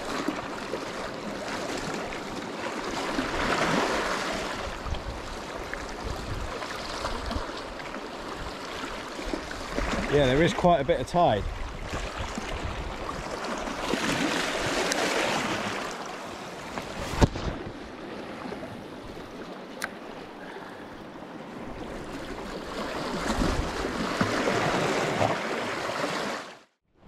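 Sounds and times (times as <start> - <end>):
sea waves washing over rocks: 0.0 - 20.2, 21.5 - 26.6.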